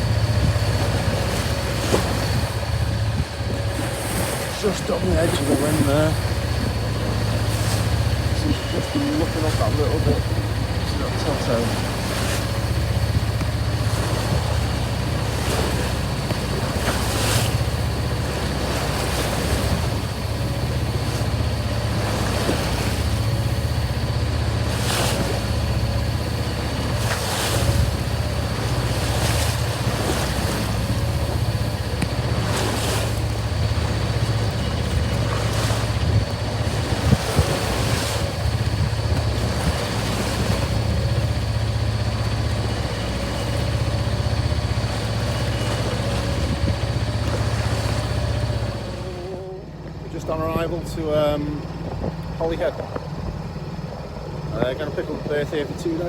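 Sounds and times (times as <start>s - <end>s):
rushing wind: 0.0s - 49.2s
steady low hum: 0.0s - 56.0s
waves slapping against hull: 0.0s - 56.0s.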